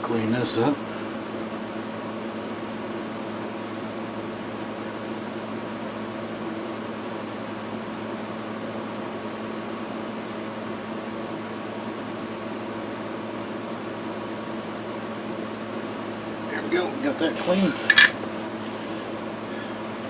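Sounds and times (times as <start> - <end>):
fan humming: 0.0 - 20.0.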